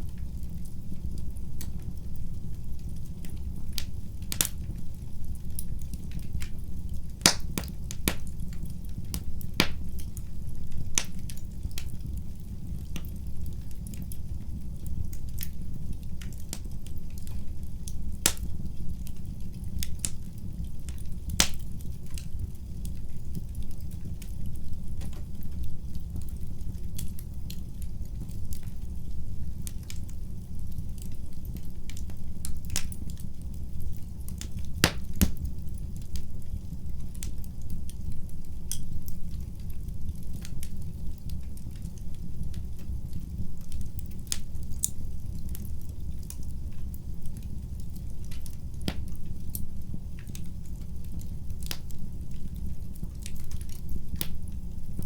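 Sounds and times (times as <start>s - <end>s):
logs crackling and popping: 0.0s - 55.0s
low rumble of flames: 0.0s - 55.0s.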